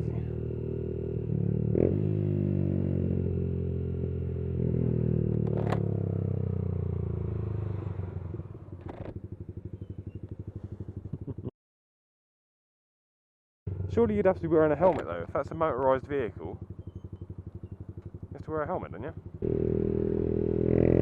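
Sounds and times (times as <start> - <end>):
motorcycle engine running: 0.0 - 11.5, 13.7 - 21.0.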